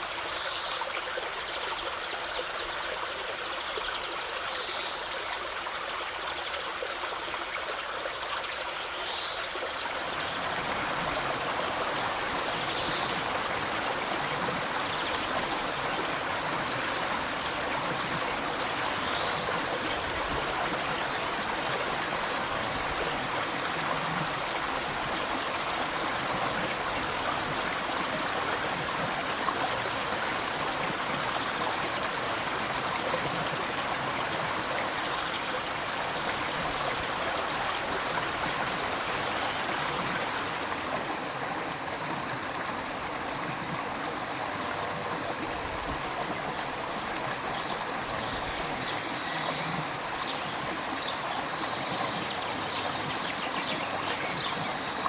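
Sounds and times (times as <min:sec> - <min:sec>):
river water rushing: 0:10.0 - 0:55.0.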